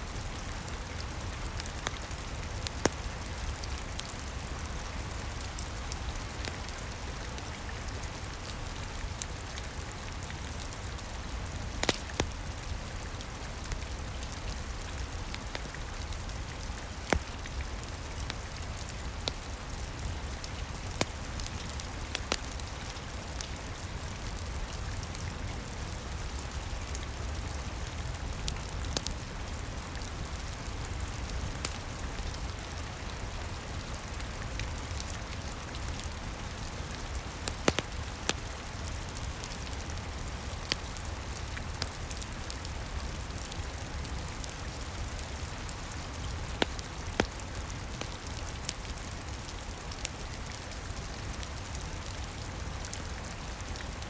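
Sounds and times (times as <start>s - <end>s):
steady rain: 0.0s - 54.0s
wood fire crackling and popping: 0.1s - 51.8s.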